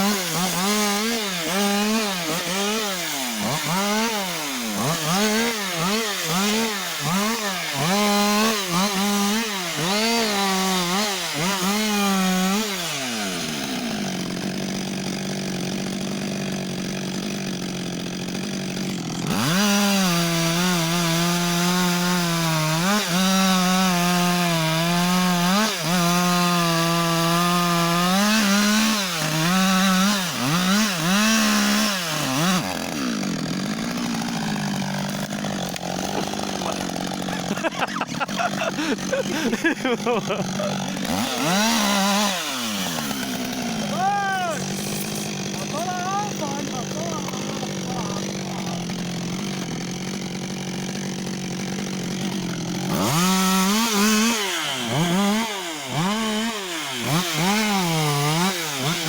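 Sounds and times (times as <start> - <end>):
chainsaw cutting wood: 0.0 - 59.0
chainsaw idling: 0.0 - 59.0.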